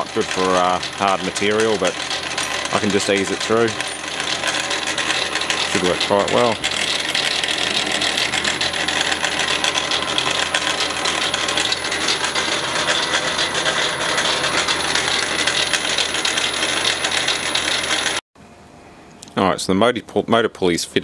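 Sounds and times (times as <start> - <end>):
metallic clicking of drill cutting: 0.0 - 18.2
thin high machine whine: 0.0 - 18.2.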